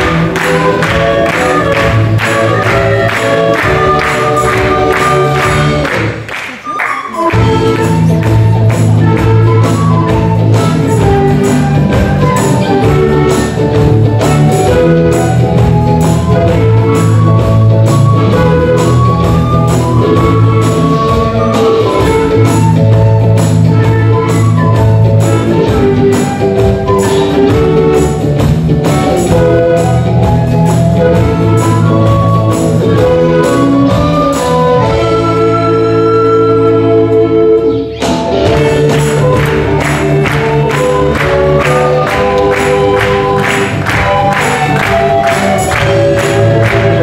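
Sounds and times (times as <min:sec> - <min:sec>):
steady percussion beat: 0:00.0 - 0:35.7, 0:38.0 - 0:47.0
recorder ensemble playing pop tune: 0:00.0 - 0:47.0.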